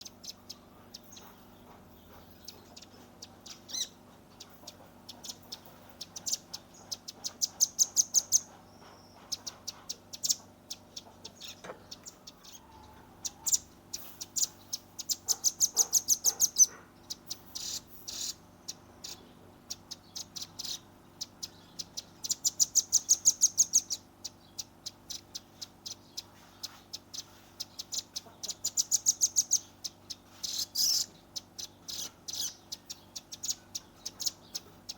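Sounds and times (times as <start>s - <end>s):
nuthatch calling in sharp high chips: 0.0s - 34.9s.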